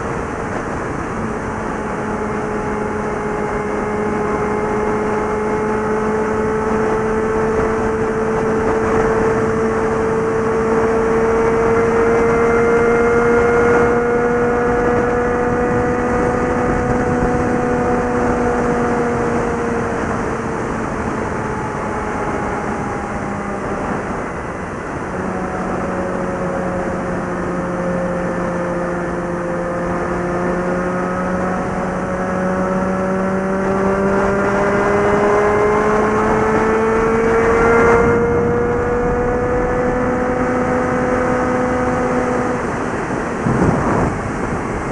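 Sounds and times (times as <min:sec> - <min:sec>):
motorcycle engine cruising: 0:00.0 - 0:44.9
wind rush: 0:00.0 - 0:44.9.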